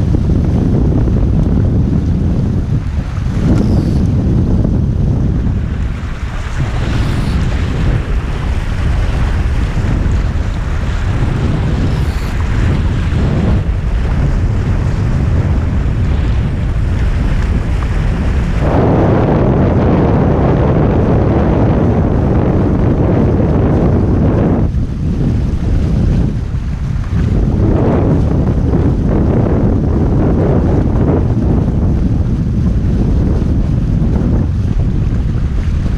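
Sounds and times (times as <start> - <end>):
water rushing along hulls: 0.0 - 35.9
wind buffeting microphone: 0.0 - 35.9.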